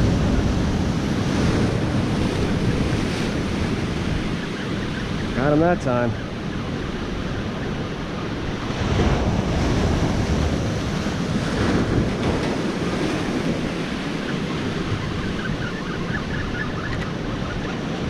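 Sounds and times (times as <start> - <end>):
ocean waves breaking on rocks: 0.0 - 18.0
wind buffeting the microphone: 0.0 - 18.0.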